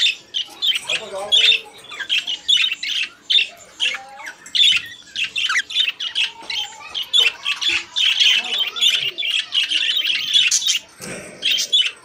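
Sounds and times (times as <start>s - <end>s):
budgerigars warbling and chattering: 0.0s - 12.0s.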